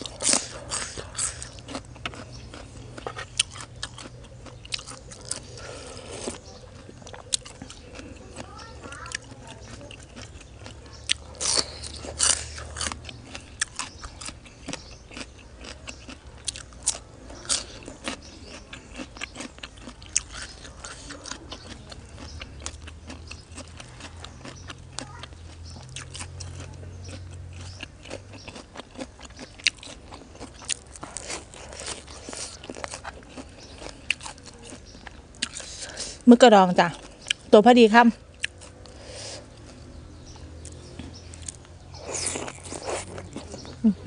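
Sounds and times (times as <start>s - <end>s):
person chewing crunchy vegetables: 0.0s - 44.0s.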